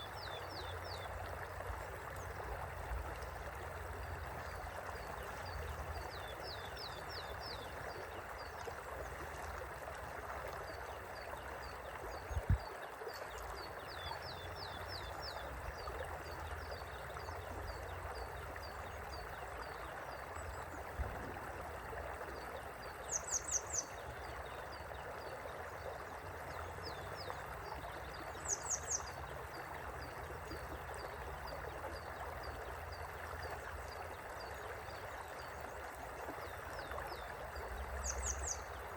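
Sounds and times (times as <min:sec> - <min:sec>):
river flowing: 0:00.0 - 0:38.9.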